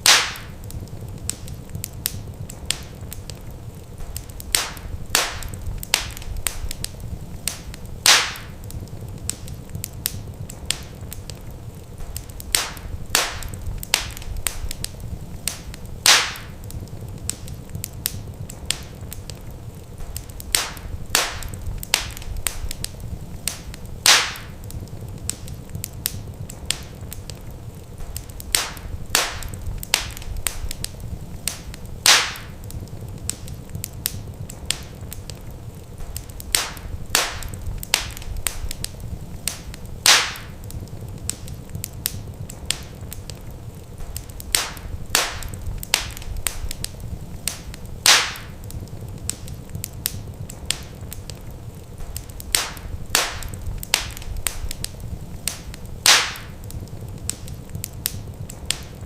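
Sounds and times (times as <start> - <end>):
fire popping: 0.0 - 59.0
low rumble of flames: 0.0 - 59.0
wood fire crackling: 0.0 - 59.0.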